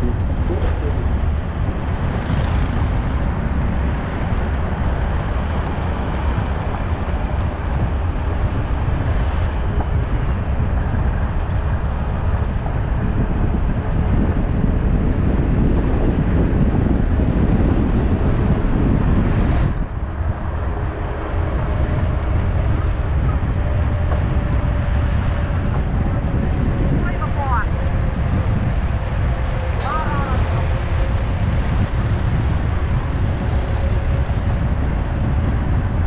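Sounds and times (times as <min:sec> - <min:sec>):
vehicle road noise rumble: 0:00.0 - 0:36.0.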